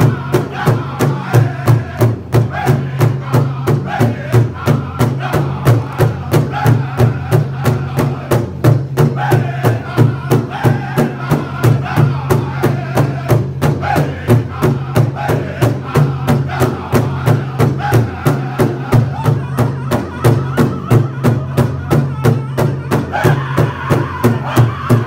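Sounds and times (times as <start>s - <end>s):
large drum beating: 0.0s - 25.0s
men singing together: 0.0s - 25.0s.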